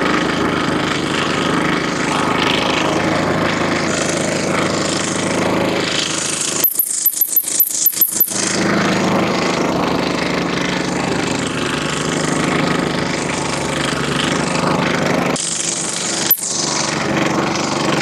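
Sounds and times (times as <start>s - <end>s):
vibratory roller engine running: 0.0s - 18.0s.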